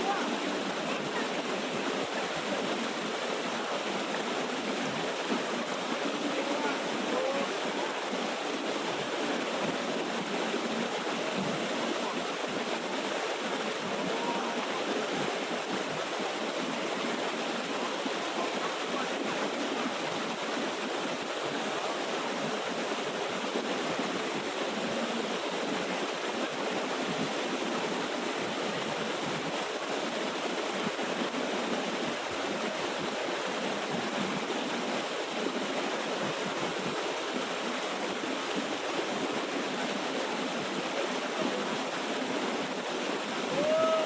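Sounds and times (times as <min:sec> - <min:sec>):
water splashing over rocks: 0:00.0 - 0:44.0.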